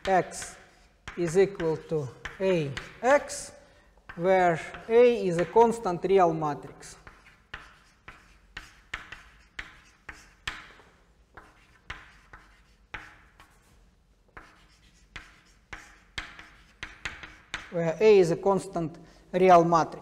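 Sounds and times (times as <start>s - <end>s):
chalk writing on chalkboard: 0.0s - 17.8s.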